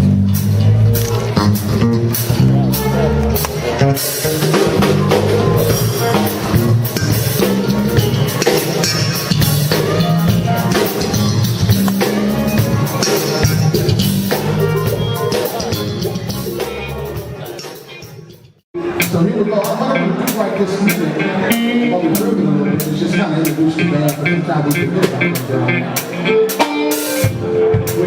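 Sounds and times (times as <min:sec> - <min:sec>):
band playing: 0:00.0 - 0:28.0
drum kit beat: 0:00.0 - 0:28.0.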